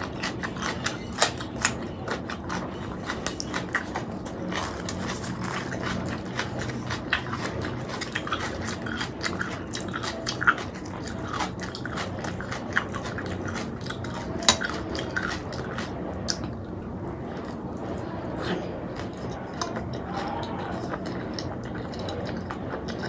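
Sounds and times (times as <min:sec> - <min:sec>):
close-miked wet chewing: 0:00.0 - 0:23.0.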